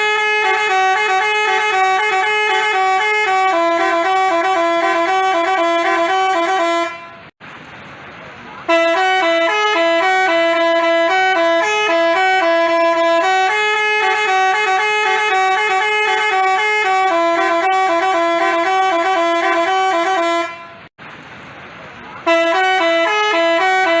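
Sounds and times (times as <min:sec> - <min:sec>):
musical bus horn playing a tune: 0:00.0 - 0:07.4, 0:08.7 - 0:20.9, 0:22.2 - 0:24.0.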